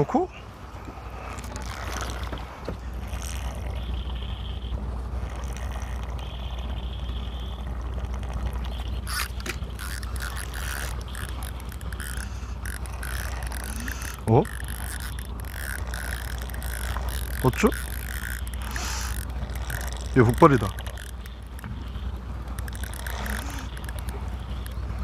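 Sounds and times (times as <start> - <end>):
boat engine droning: 0.0 - 25.0
fishing reel clicking: 1.2 - 25.0.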